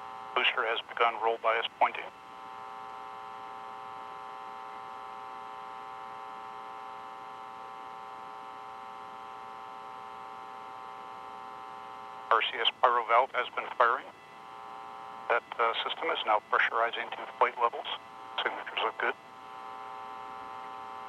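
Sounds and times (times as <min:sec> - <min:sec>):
electronic hum of held tones: 0:00.0 - 0:21.0.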